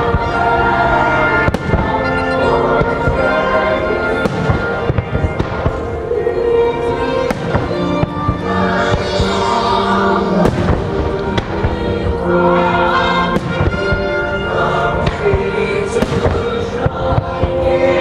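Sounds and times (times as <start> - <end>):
fireworks bursting: 0.0 - 18.0
folk song music: 0.0 - 18.0.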